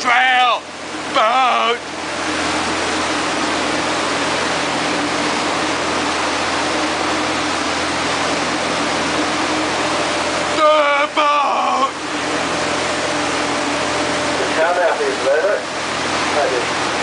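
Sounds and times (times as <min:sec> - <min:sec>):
boat engine drone: 0:00.0 - 0:17.0
rush of wind and water: 0:00.0 - 0:17.0.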